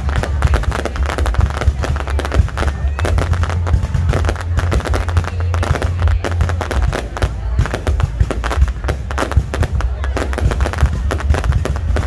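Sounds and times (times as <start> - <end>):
deep rumble: 0.0 - 12.0
fireworks bangs and crackles: 0.0 - 12.0.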